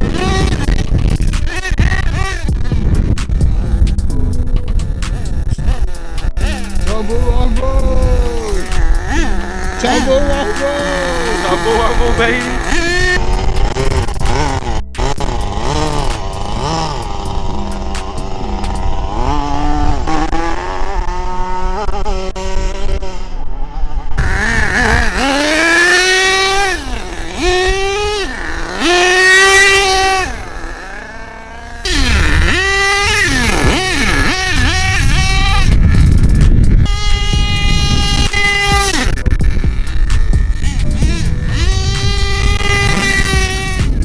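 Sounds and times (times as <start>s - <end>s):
small two-stroke engine revving: 0.0s - 44.0s.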